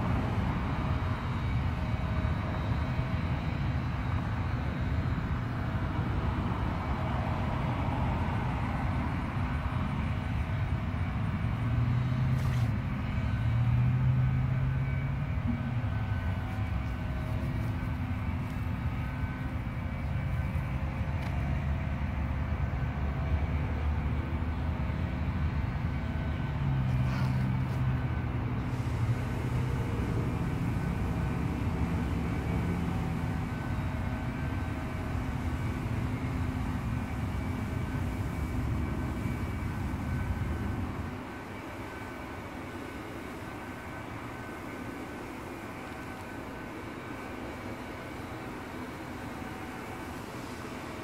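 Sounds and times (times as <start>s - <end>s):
distant traffic rumble: 0.0s - 51.0s.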